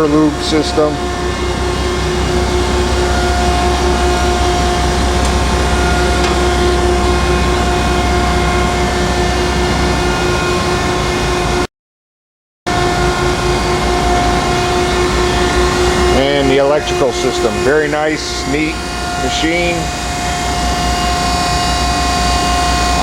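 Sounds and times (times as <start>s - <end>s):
grinder running with hum and whine: 0.0s - 11.7s, 12.7s - 23.0s.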